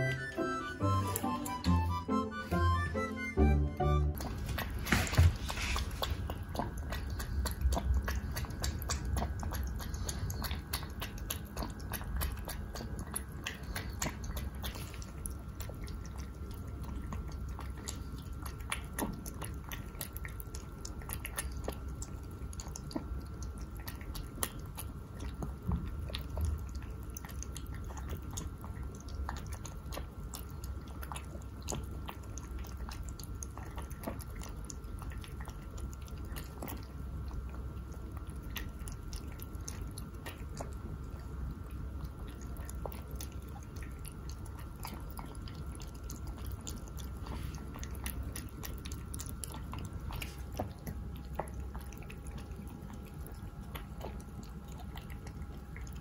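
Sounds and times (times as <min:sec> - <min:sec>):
puppy chewing wet food: 0:00.0 - 0:56.0
teeth clicking on food: 0:04.1 - 0:56.0.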